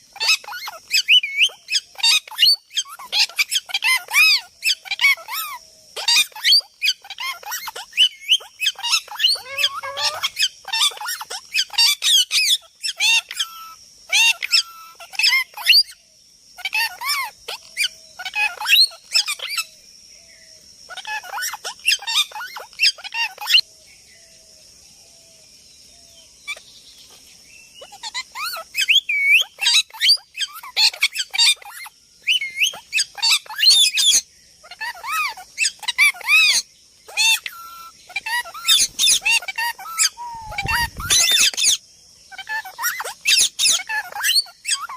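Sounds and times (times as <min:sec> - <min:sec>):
parrots chattering: 0:00.0 - 0:16.0, 0:16.6 - 0:19.8, 0:20.9 - 0:23.7, 0:27.8 - 0:44.9.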